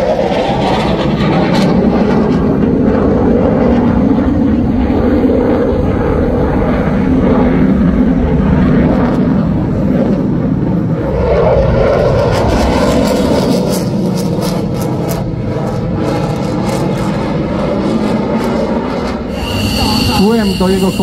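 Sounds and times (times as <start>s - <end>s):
fighter jet engine rumble: 0.0s - 21.0s.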